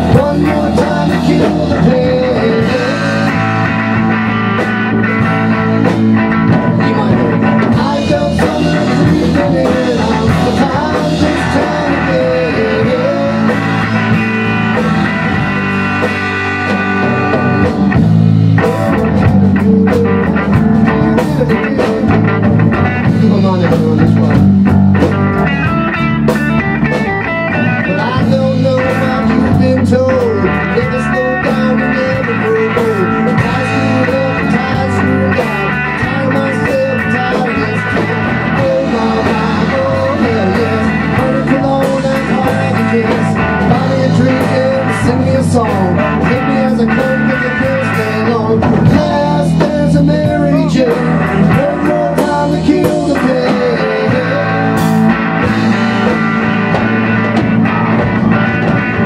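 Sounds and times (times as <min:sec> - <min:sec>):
drums: 0:00.0 - 0:59.0
electric bass: 0:00.0 - 0:59.0
electric guitar with bending notes: 0:00.0 - 0:59.0.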